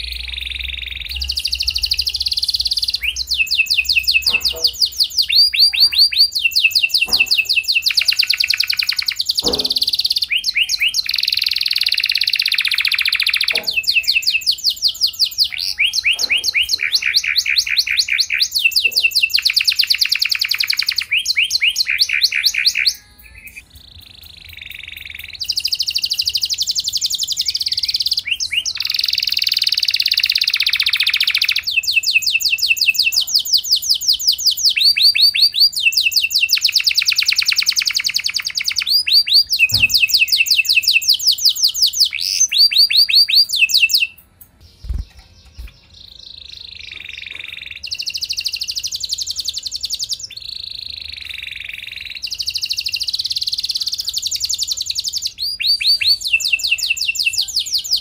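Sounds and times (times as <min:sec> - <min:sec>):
canary singing fast trills: 0:00.0 - 0:58.0.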